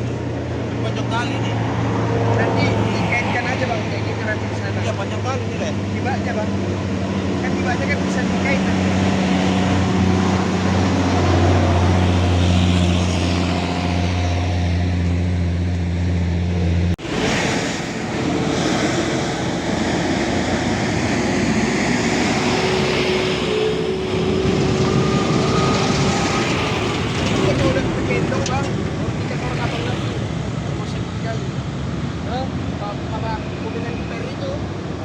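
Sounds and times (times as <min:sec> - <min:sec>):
diesel truck engine drone: 0:00.0 - 0:35.0
rough noisy engine: 0:00.0 - 0:35.0.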